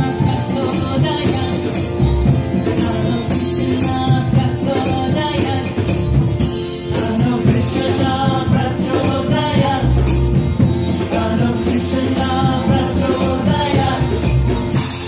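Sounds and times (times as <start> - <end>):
bass: 0.0 - 15.0
shaker or tambourine rhythm: 0.0 - 15.0.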